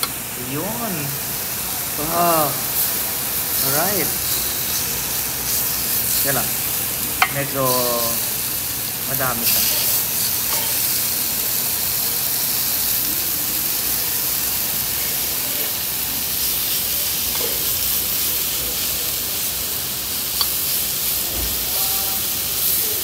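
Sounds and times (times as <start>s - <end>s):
meat sizzling on grill plate: 0.0s - 23.0s.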